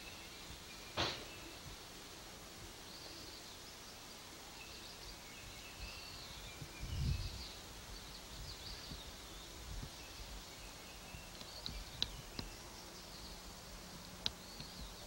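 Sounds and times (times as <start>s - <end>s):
small birds chirping: 0.0s - 15.0s
steady hiss: 0.0s - 15.0s.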